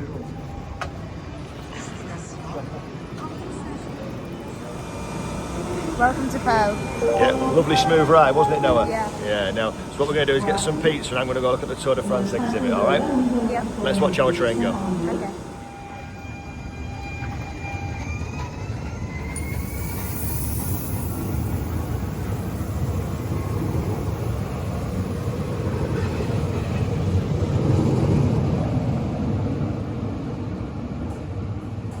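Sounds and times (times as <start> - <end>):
train rumble: 0.0 - 32.0
train whine rising: 4.1 - 30.6.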